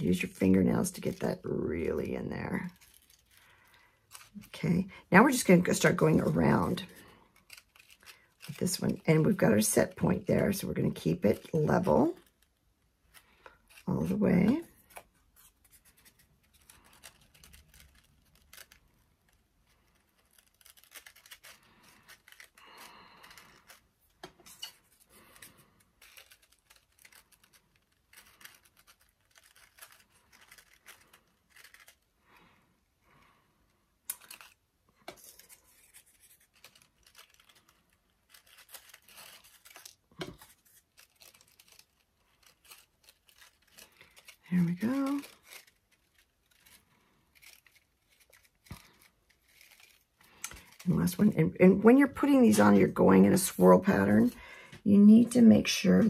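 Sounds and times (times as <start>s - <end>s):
paper rustling and crinkling: 0.0s - 33.4s, 34.1s - 56.0s.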